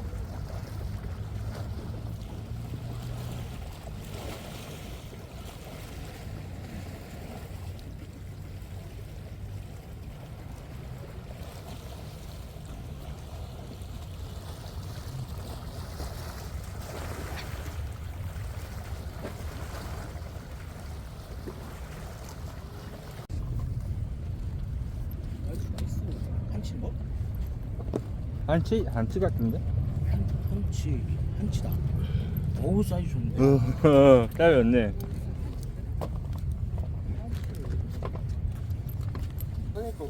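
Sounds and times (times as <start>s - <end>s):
sea waves washing on shore: 0.0s - 40.0s
wind rumbling on microphone: 0.0s - 40.0s.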